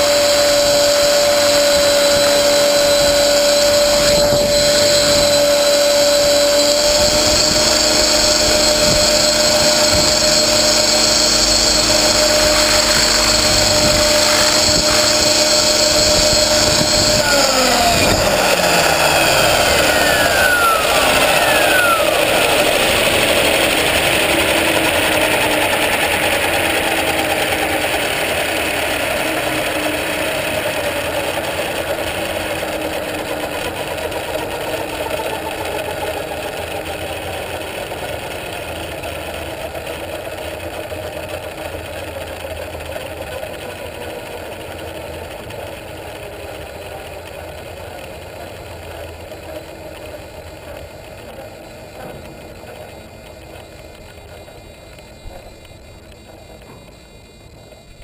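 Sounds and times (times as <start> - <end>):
helicopter rotor whirring whine: 0.0 - 58.0.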